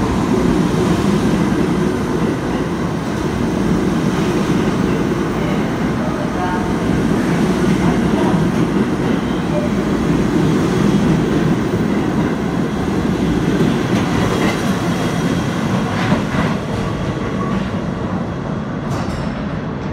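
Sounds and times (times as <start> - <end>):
subway train wheels on rails: 0.0 - 19.9.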